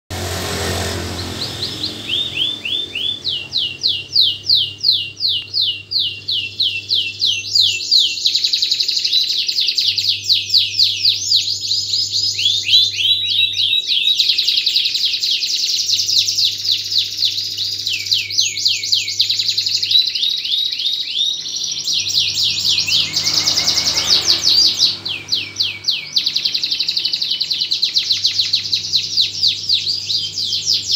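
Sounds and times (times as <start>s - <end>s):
canary singing trills: 0.1s - 30.9s.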